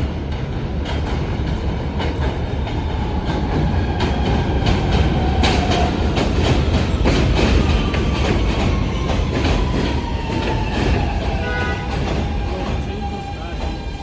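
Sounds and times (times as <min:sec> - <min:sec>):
subway train running: 0:00.0 - 0:14.0.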